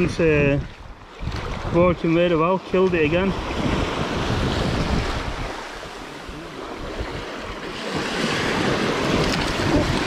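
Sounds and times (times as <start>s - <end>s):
wind on microphone: 0.0s - 2.1s, 2.7s - 10.0s
waves washing over pebbles: 1.2s - 10.0s.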